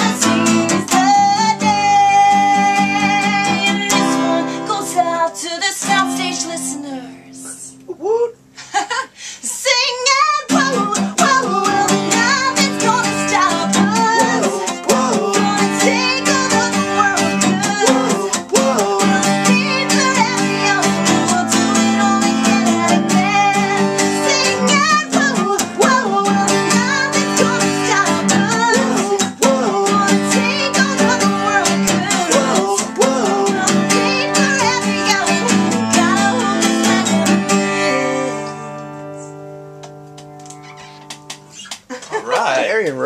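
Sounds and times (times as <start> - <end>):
woman singing: 0.0 - 7.8, 9.4 - 38.8
acoustic guitar strumming: 0.0 - 8.5, 10.0 - 42.9.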